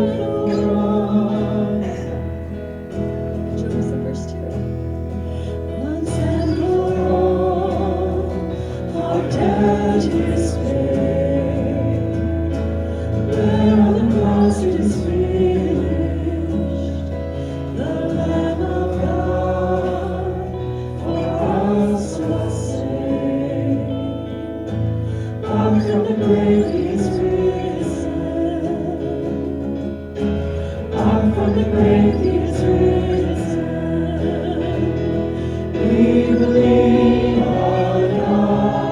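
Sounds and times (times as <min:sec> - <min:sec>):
group singing worship song: 0:00.0 - 0:03.3, 0:05.0 - 0:38.9.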